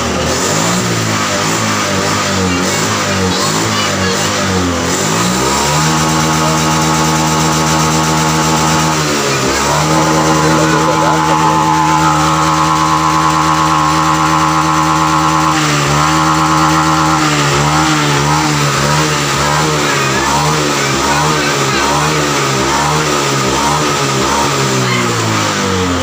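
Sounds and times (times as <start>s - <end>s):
scooter engine revving: 0.0s - 26.0s.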